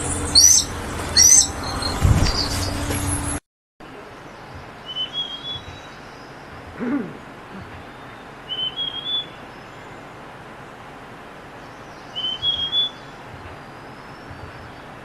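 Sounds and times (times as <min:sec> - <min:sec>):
bird calling: 0:00.0 - 0:02.8, 0:04.0 - 0:15.0.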